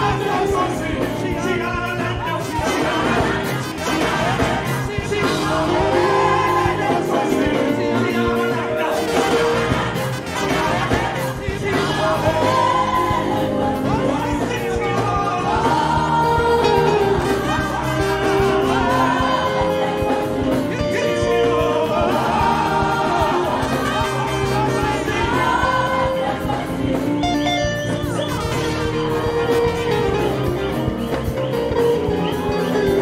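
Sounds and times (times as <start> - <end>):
church band playing: 0.0 - 33.0
voices singing held notes: 0.0 - 33.0.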